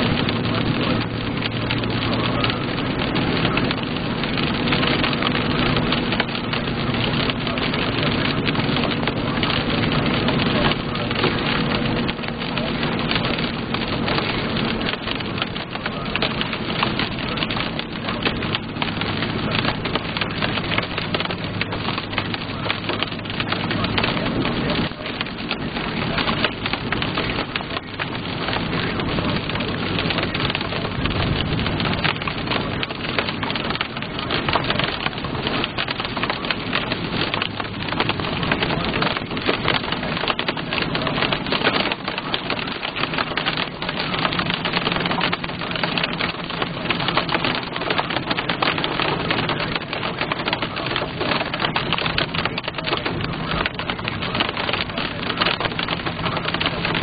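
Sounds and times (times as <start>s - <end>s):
rain and hail on car roof: 0.0s - 57.0s.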